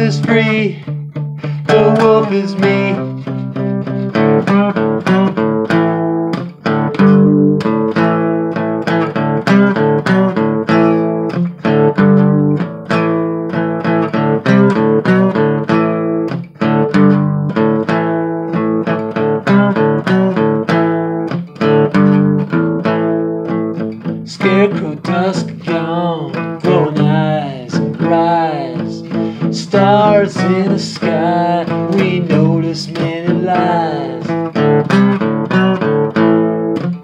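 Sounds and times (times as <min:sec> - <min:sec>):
acoustic guitar strummed and picked: 0:00.0 - 0:37.0.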